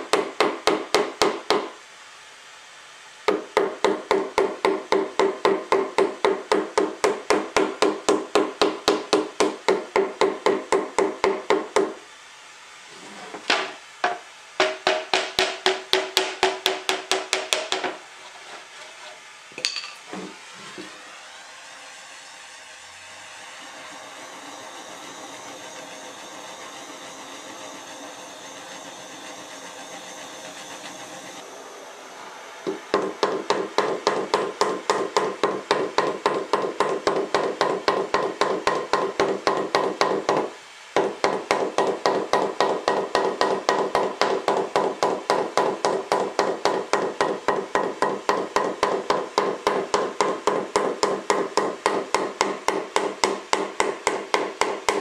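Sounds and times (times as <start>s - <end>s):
hammer beating board: 0.0s - 1.7s, 3.2s - 12.0s, 13.5s - 18.0s, 23.0s - 31.4s, 32.6s - 55.0s.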